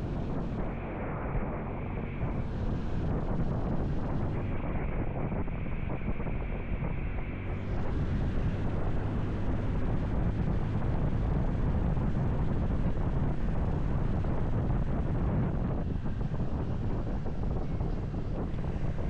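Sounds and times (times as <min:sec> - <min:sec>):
motorcycle engine and road rumble: 0:00.0 - 0:19.0
wind rushing over microphone: 0:00.0 - 0:19.0.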